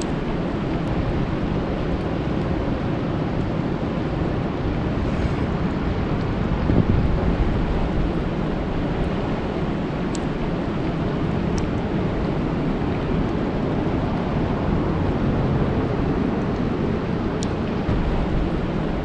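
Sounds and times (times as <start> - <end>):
deep rumble: 0.0 - 19.0
heavy rain on a lake: 0.0 - 19.0.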